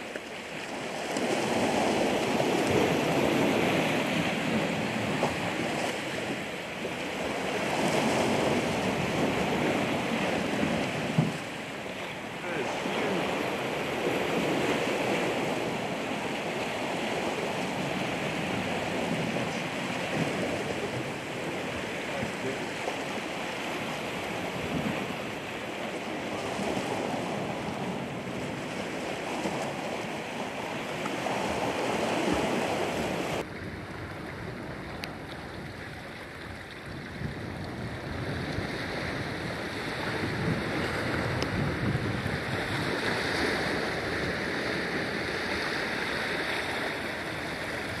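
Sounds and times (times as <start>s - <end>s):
ocean surf washing ashore: 0.0s - 48.0s
wind buffeting microphone: 0.9s - 48.0s.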